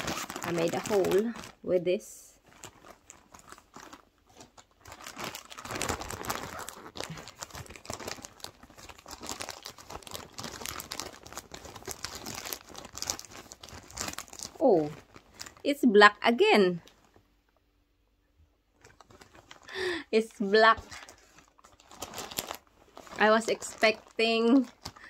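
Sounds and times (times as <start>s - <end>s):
plastic bag crinkling: 0.0s - 16.0s, 18.7s - 25.0s.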